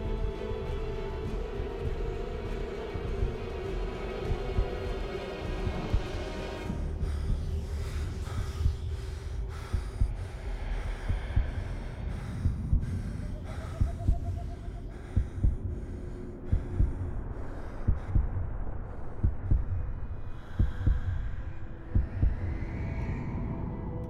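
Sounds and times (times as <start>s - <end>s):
heartbeat thumps: 0.0s - 22.9s
low droning score: 0.0s - 24.0s.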